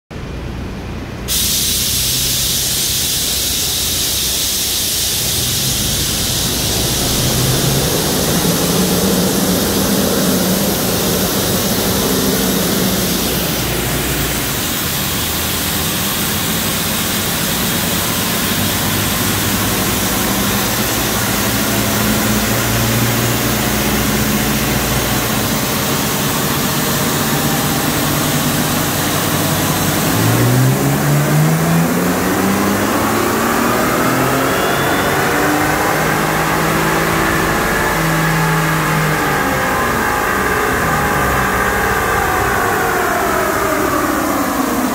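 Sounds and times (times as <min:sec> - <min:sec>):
truck engine on dyno: 0:00.0 - 0:44.9
tyres spinning rollers rush: 0:05.4 - 0:44.9.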